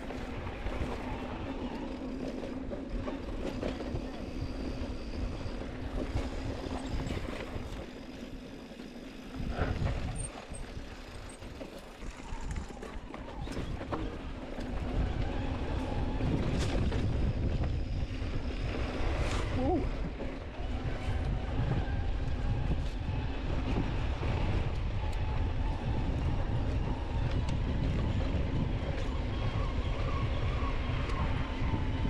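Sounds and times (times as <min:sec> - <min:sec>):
bike rattling over bumps: 0:00.0 - 0:32.0
wind rumble on microphone: 0:00.0 - 0:32.0.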